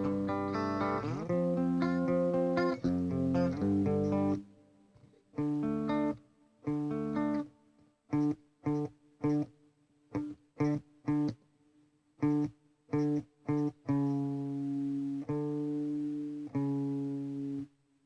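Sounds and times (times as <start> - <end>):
guitar chords: 0.0 - 11.4, 12.2 - 17.7.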